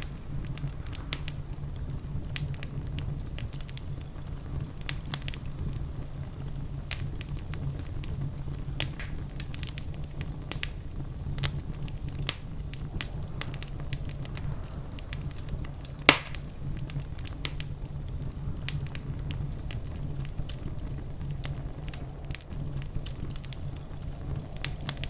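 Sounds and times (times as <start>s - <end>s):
fireplace fire crackling: 0.0s - 25.0s
loud fire pop: 0.0s - 25.0s
low rumble of fire: 0.0s - 25.0s.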